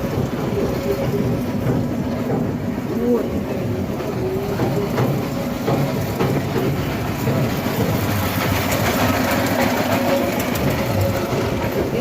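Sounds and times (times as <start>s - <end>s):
fairground ride machinery rumbling: 0.0s - 12.0s.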